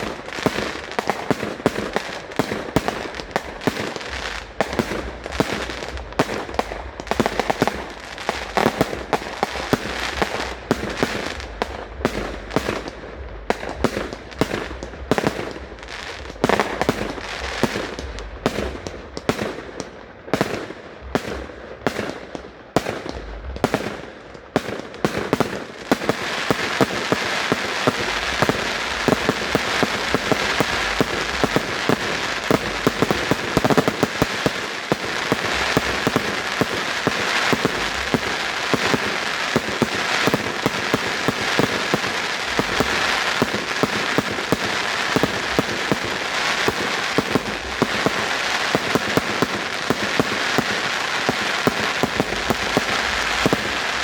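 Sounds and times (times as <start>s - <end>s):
fireworks bangs and pops: 0.0s - 54.0s
fireworks crackle: 0.0s - 54.0s.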